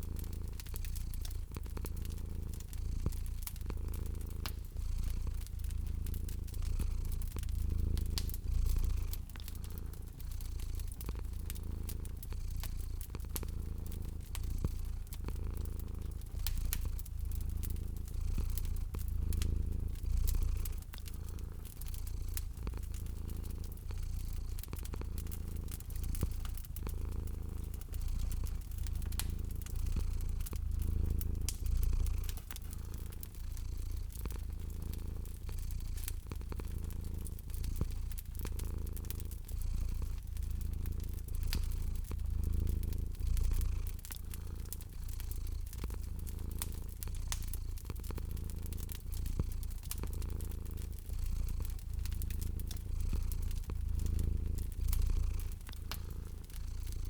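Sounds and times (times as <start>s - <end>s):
cat purring: 0.0s - 57.0s
wood fire crackling: 0.0s - 57.0s.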